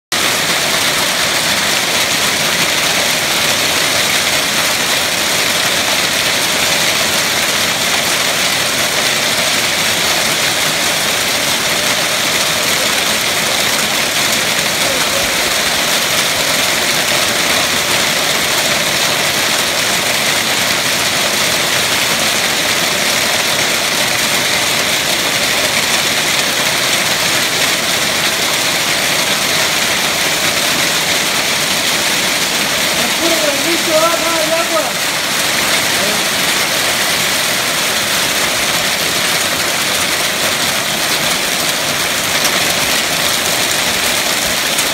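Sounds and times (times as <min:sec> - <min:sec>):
heavy hail on pavement: 0:00.1 - 0:44.9.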